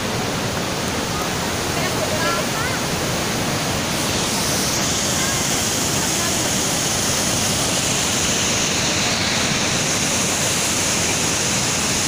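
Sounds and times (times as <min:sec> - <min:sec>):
river rushing through gorge: 0:00.0 - 0:12.0.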